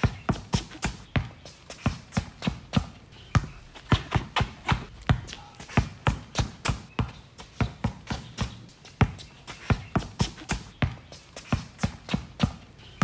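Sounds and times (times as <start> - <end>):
basketball bouncing on concrete: 0.0 - 12.8.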